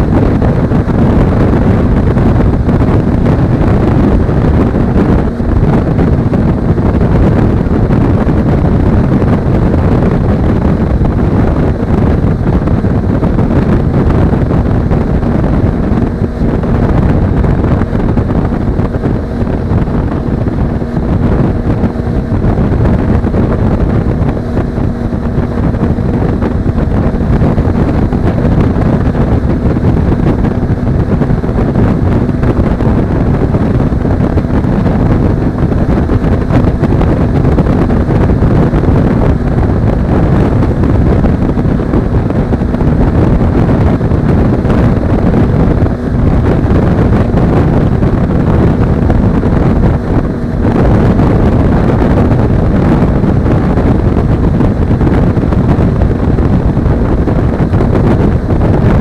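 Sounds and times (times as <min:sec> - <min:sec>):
motorcycle engine drone: 0:00.0 - 0:59.0
wind buffeting microphone: 0:00.0 - 0:59.0.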